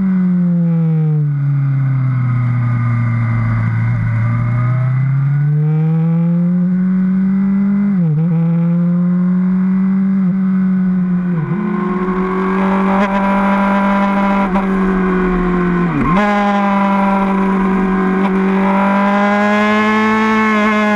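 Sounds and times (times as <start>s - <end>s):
motorcycle engine revving high: 0.0s - 20.9s.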